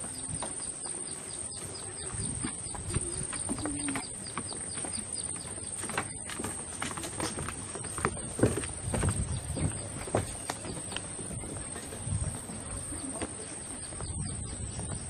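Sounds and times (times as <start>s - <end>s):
birds chirping: 0.0s - 15.0s
footsteps on wooden boardwalk: 0.0s - 15.0s.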